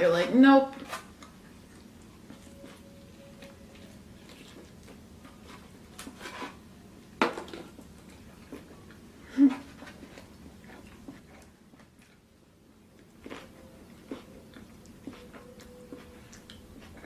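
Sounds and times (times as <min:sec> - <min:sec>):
chewing and mouth noises: 0:00.8 - 0:06.1, 0:07.5 - 0:12.3, 0:12.9 - 0:17.0.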